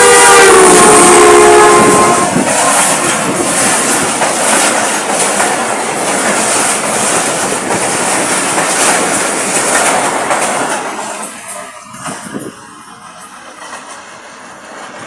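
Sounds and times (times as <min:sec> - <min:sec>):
train wheels rushing on rails: 0:00.0 - 0:15.0
carriages clickety-clack: 0:00.8 - 0:15.0.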